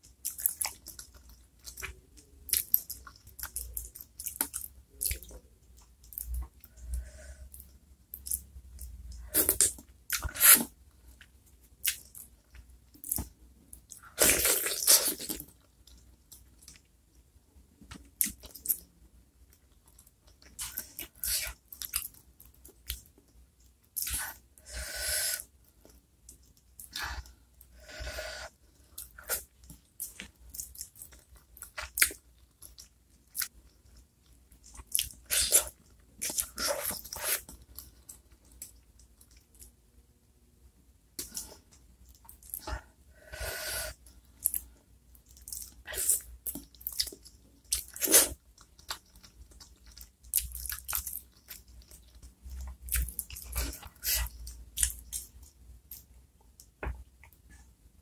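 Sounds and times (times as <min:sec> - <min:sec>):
person chewing and crunching: 0:00.0 - 0:06.8, 0:07.5 - 0:16.9, 0:19.5 - 0:23.3, 0:25.4 - 0:39.7, 0:44.1 - 0:57.3.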